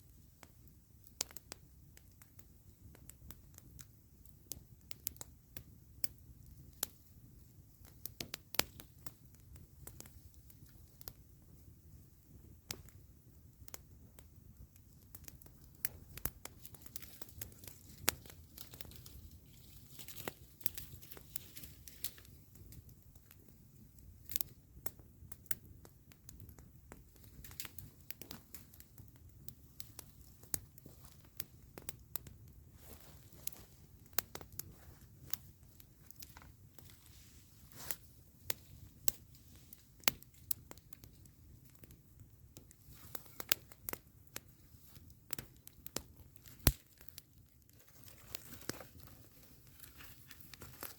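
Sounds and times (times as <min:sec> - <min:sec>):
campfire crackling: 0:00.0 - 0:50.9
low steady background noise: 0:00.0 - 0:50.9.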